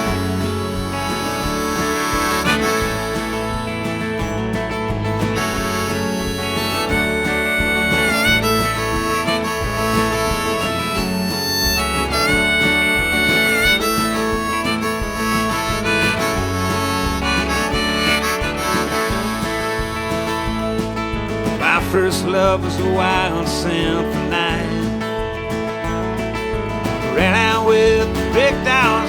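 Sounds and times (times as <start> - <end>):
acoustic guitar: 0.0 - 29.0
bass: 0.0 - 29.0
harmonica solo: 0.0 - 29.0.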